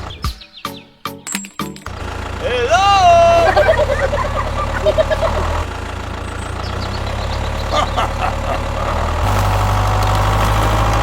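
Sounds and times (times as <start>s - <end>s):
low engine rumble: 1.8s - 11.0s.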